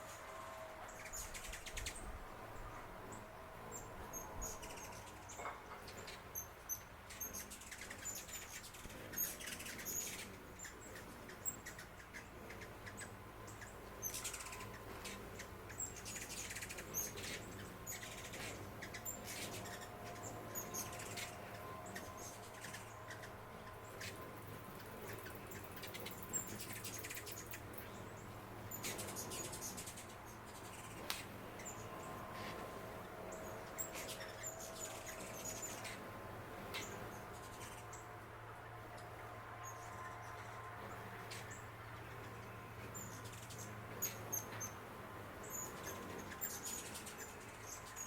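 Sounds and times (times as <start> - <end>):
small birds chirping: 0.9 - 48.0.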